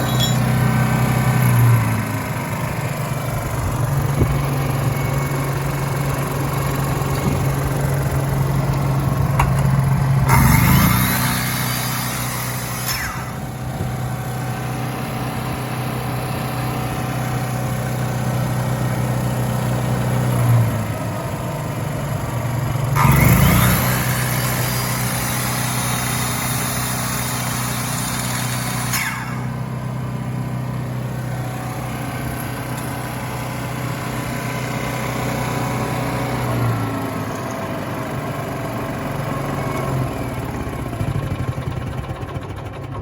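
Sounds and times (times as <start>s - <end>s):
welder generator engine running: 0.0s - 43.0s.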